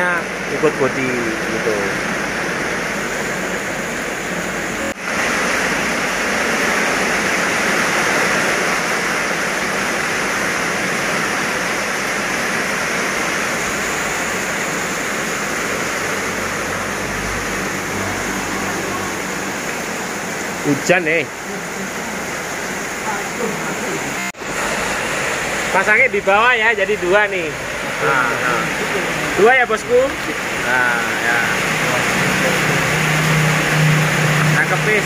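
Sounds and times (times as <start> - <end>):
rain falling steadily: 0.0 - 35.0.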